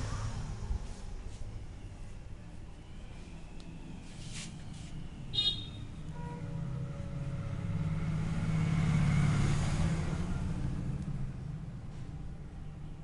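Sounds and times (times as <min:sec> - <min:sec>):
vehicle engine rumble passing: 0:00.0 - 0:13.0.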